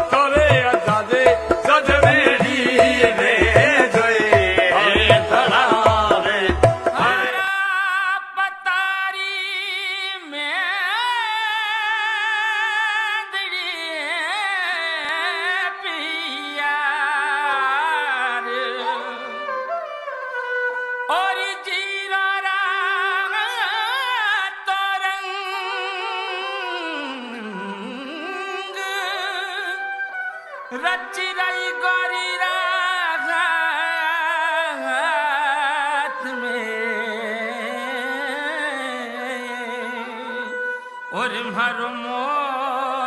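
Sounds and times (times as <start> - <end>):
person singing: 0.0 - 19.5, 21.1 - 30.0, 30.7 - 43.0.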